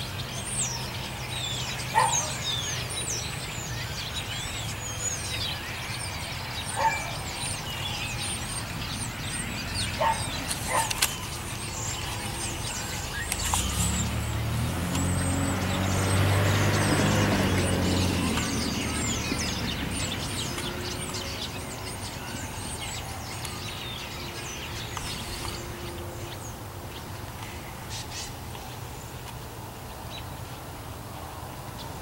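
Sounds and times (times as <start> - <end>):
vehicle engine drone: 0.0 - 31.2
birds chirping: 0.0 - 32.0.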